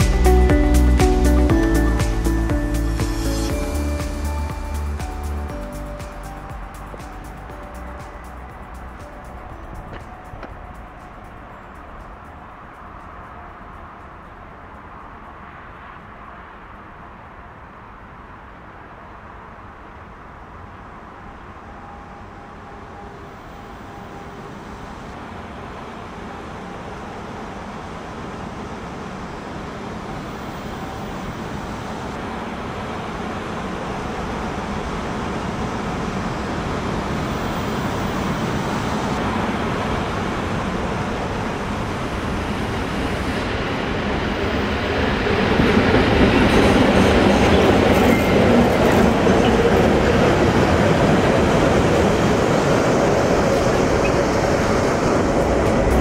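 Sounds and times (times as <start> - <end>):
electric locomotive hauling freight train: 0.0 - 56.0.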